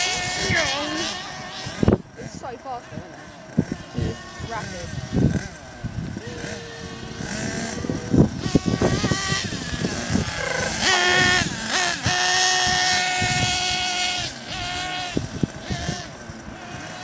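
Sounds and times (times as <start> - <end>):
rc car engine revving and whining: 0.0 - 17.0
wind buffeting microphone: 0.0 - 17.0.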